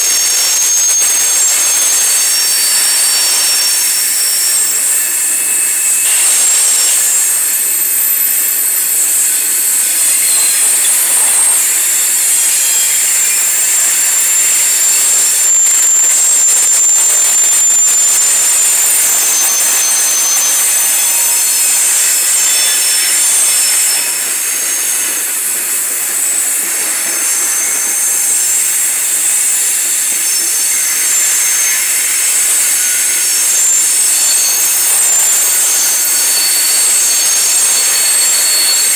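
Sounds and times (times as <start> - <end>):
train wheels screeching on rails: 0.0 - 38.9.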